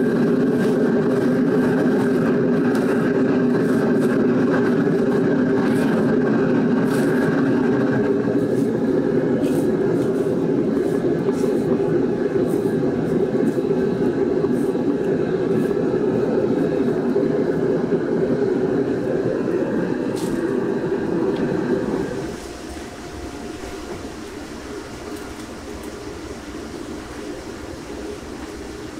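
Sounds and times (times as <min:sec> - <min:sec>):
water at a rolling boil: 0:00.0 - 0:28.9.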